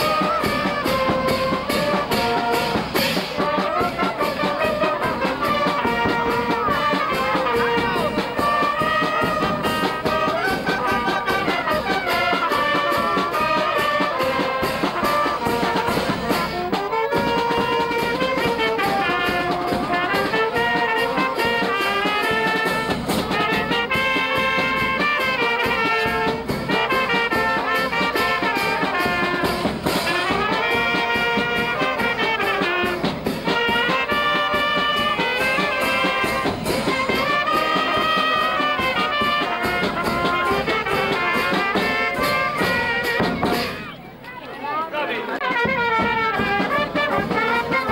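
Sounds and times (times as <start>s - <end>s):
brass band playing: 0.0s - 47.9s.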